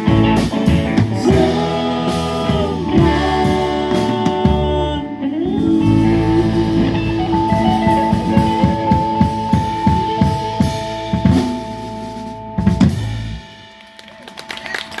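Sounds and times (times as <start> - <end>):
drum kit: 0.0 - 14.2
electric guitar: 0.0 - 15.0
keyboard: 0.0 - 15.0.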